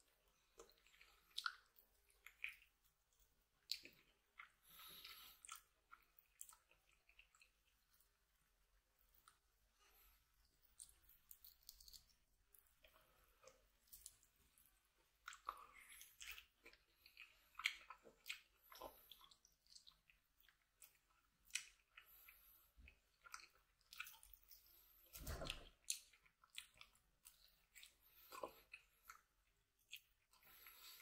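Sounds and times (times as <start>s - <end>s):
person chewing meat: 0.1s - 9.5s, 10.6s - 25.0s, 25.7s - 31.0s.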